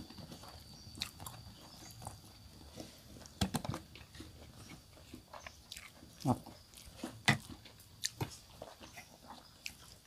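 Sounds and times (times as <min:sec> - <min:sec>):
quiet chewing: 0:00.0 - 0:10.0.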